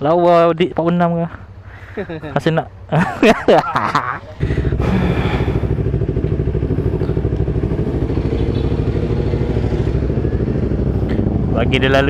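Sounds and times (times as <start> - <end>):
motorcycle engine idling: 1.2 - 12.0.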